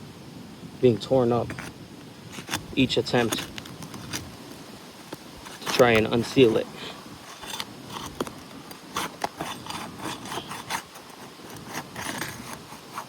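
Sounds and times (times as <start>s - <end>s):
roof shingle scraping and tearing: 1.3s - 13.0s.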